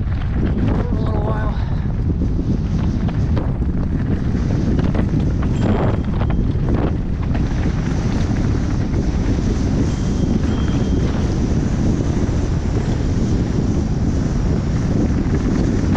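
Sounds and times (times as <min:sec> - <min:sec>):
bike clicks and rattles: 0:00.0 - 0:15.9
wind on microphone: 0:00.0 - 0:15.9.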